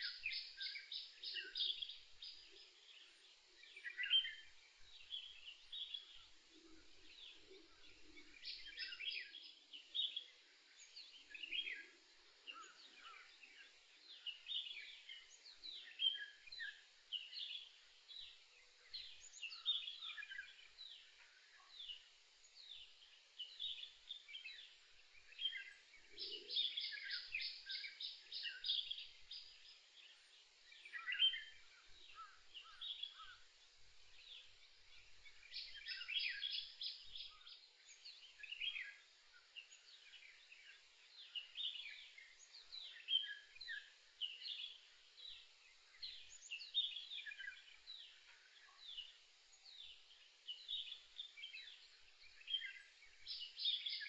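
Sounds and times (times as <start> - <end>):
songbirds chirping and whistling: 0.0 - 54.0.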